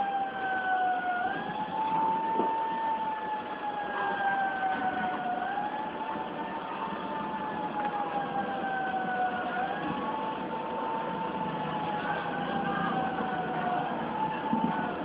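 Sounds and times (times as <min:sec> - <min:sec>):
siren wailing: 0:00.0 - 0:15.0
steady background rush: 0:00.0 - 0:15.0.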